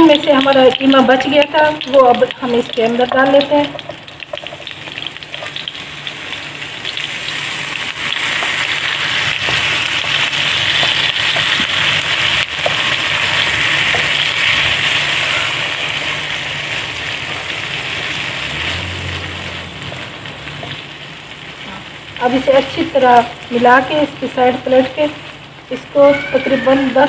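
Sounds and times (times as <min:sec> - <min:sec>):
mince sizzling in hot oil: 0:00.0 - 0:27.0.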